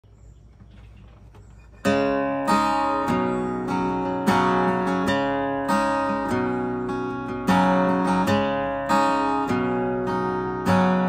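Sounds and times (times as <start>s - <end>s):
acoustic guitar strumming: 1.1s - 11.0s.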